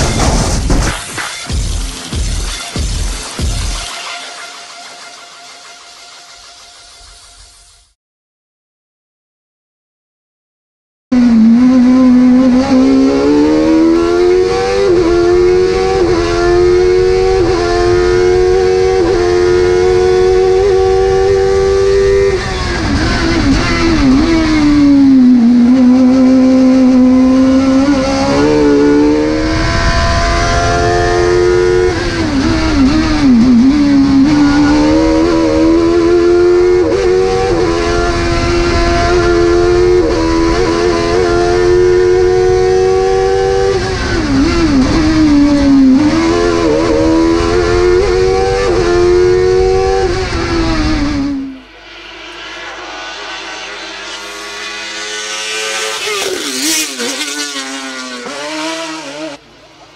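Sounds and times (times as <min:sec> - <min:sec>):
race car engine at high revs: 0:11.1 - 0:59.9.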